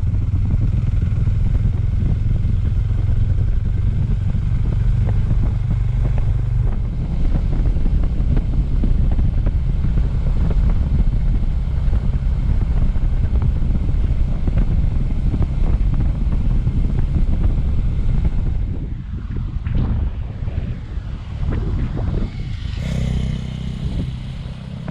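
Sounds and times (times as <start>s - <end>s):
motorcycle engine running: 0.0s - 24.9s
wind rumble on microphone: 0.0s - 24.9s.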